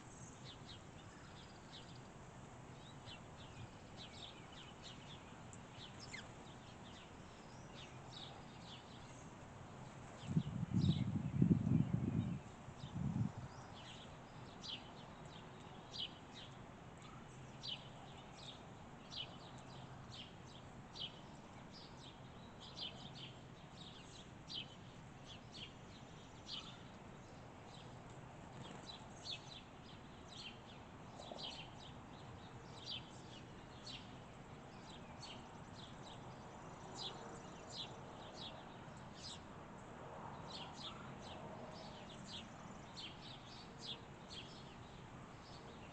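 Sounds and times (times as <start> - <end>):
small birds chirping: 0.0 - 39.5, 40.4 - 45.9.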